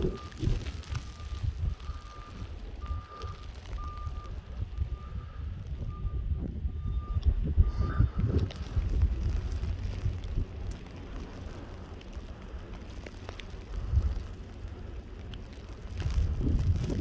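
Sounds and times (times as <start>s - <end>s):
faint ticks: 0.0s - 4.9s, 8.2s - 17.0s
gusty wind on microphone: 0.0s - 12.5s, 13.6s - 17.0s.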